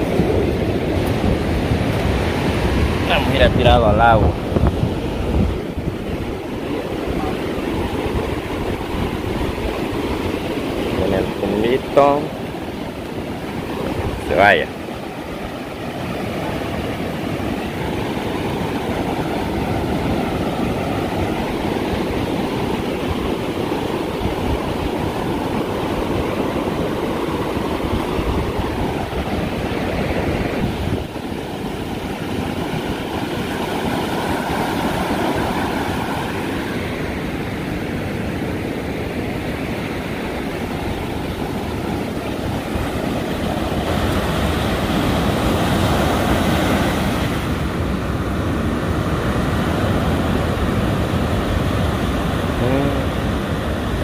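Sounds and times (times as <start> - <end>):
ocean waves breaking on sand: 0.0 - 54.0.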